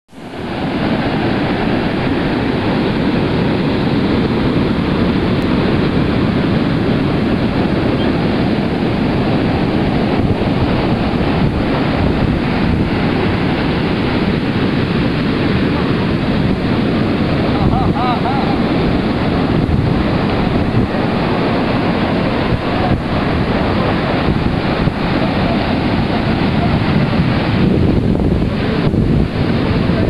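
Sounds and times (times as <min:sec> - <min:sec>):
waves breaking on beach: 0:00.1 - 0:30.0
wind buffeting microphone: 0:00.1 - 0:30.0.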